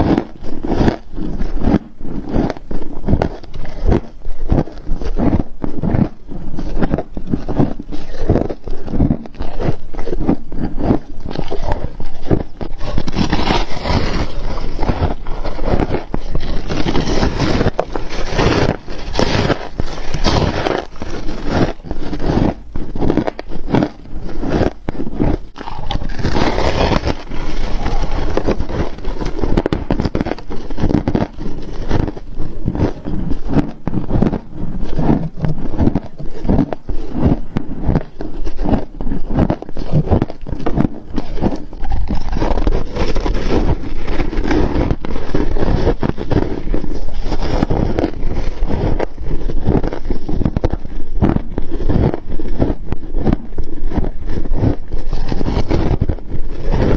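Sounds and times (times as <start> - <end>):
crunching and chewing of frost: 0.0 - 56.9.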